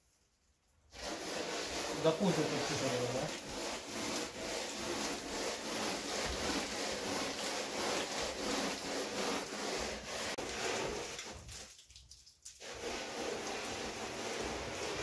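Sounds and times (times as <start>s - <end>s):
hand float scraping plaster: 0.8s - 11.8s, 12.6s - 15.0s.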